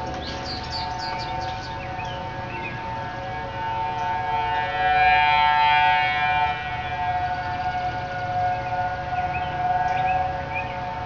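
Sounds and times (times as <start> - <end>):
warning sirens wailing: 0.0 - 11.0.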